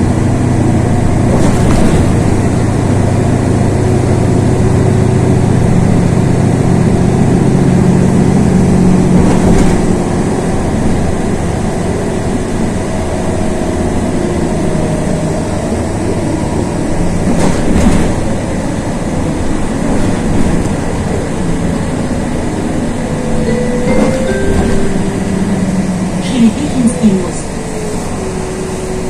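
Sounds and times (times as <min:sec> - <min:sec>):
bus engine drone: 0:00.0 - 0:29.0.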